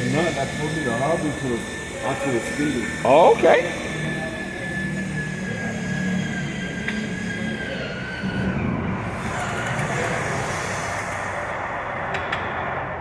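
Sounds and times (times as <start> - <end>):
thin whine and hiss: 0.0 - 8.4, 9.0 - 13.0
mechanical rumble: 0.0 - 13.0.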